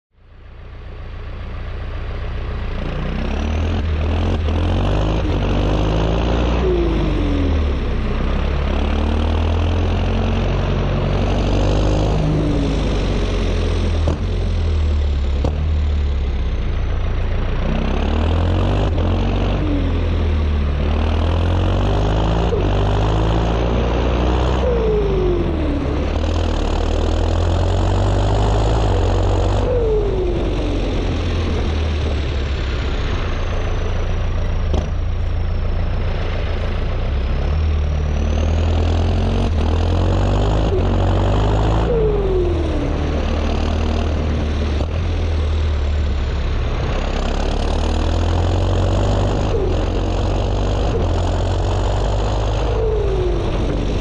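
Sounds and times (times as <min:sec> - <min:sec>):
tractor diesel engine under load: 0:00.2 - 0:54.0.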